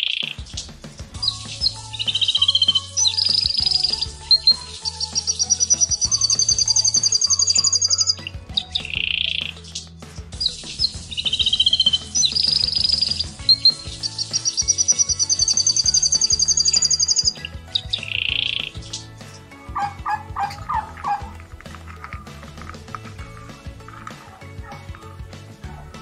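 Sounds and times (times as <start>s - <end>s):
finch singing trills: 0.0s - 26.0s
soft background music: 0.0s - 26.0s.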